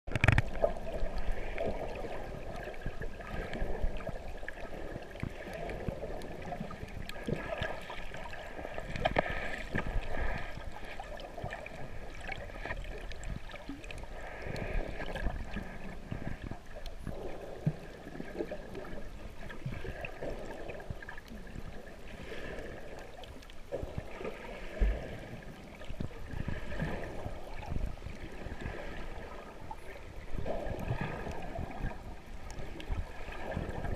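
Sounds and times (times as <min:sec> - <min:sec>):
muffled underwater water sloshing: 0:00.1 - 0:33.9
faint steady hum: 0:00.5 - 0:33.9.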